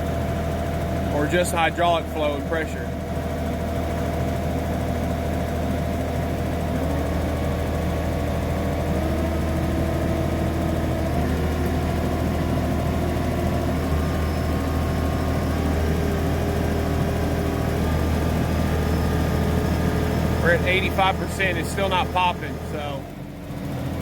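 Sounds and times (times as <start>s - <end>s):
engine and hydraulic pump running: 0.0s - 24.0s.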